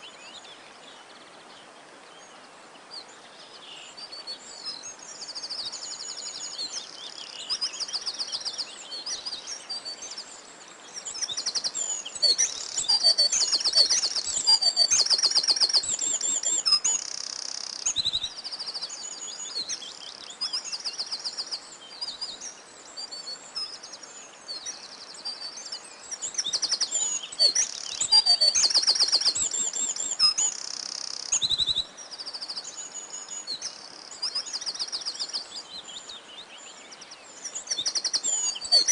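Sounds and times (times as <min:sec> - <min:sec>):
songbirds chorus: 0:00.0 - 0:38.9.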